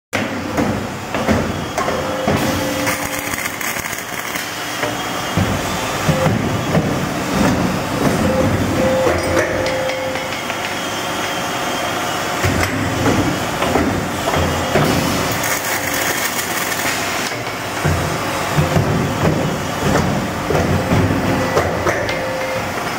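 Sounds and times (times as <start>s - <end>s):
machine clattering and knocking: 0.2s - 10.6s, 12.4s - 22.9s.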